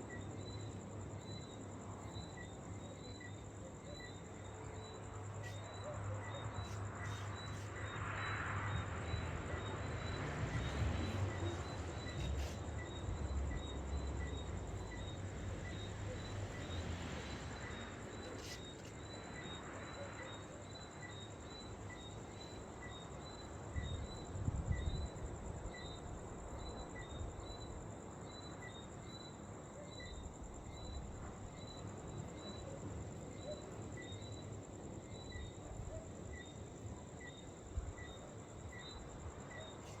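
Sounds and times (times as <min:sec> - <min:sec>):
insects trilling and chirping: 0:00.0 - 0:40.0.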